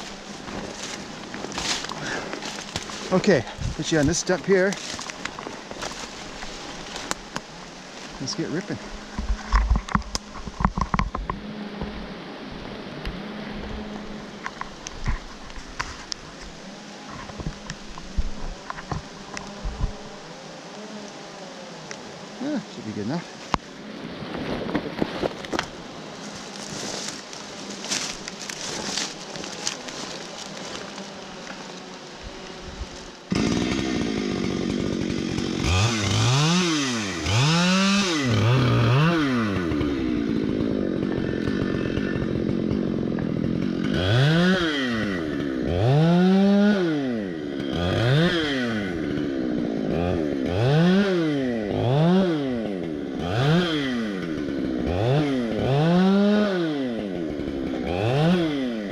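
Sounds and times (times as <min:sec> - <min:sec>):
chainsaw cutting log: 0:00.0 - 0:12.2, 0:13.0 - 0:23.7, 0:24.3 - 0:58.9.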